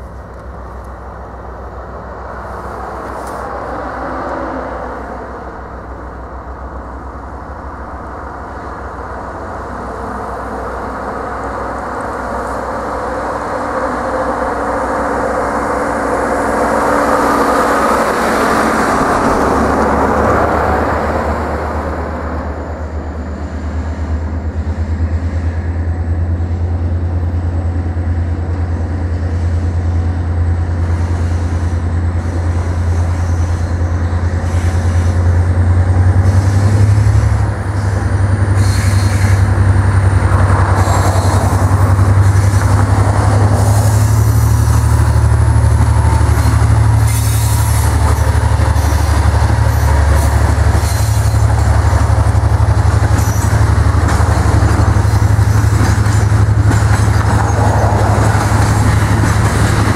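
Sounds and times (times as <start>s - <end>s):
bus passing: 0.0s - 59.9s
diesel locomotive engine drone: 0.0s - 59.9s.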